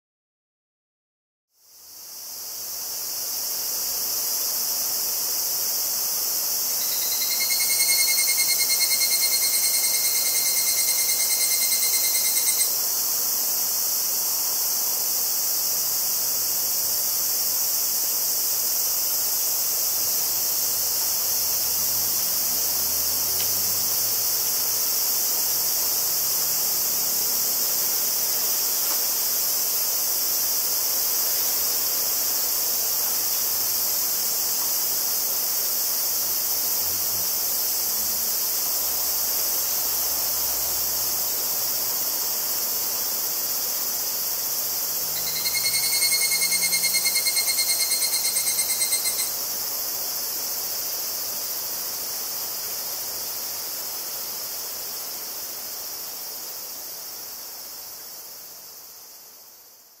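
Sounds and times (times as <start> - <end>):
cicada chorus: 1.6 - 60.0
cicada pulsed trill call: 1.6 - 60.0.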